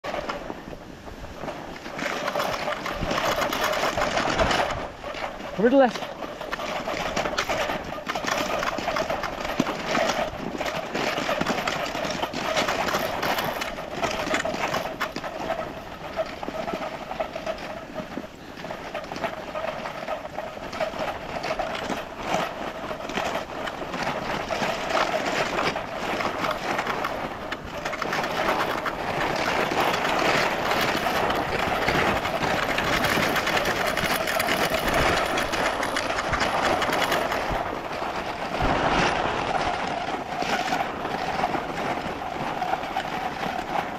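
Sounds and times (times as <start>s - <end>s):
skis gliding over snow: 0.0s - 43.9s.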